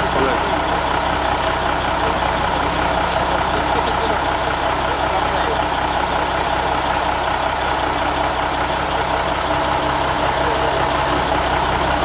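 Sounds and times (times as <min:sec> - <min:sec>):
heavy vehicle engine idling: 0:00.0 - 0:12.0.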